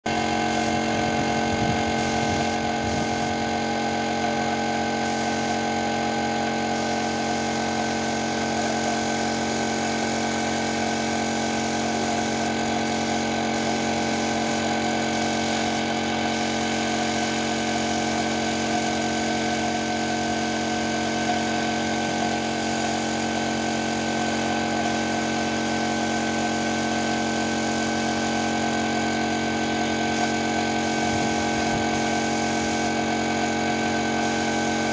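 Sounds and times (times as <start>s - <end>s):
air compressor humming: 0.0s - 34.9s.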